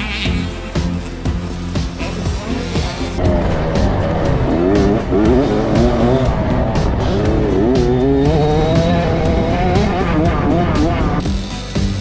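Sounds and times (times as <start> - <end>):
dirt bike engine revving: 0.0 - 11.3
background music with beat: 0.0 - 12.0.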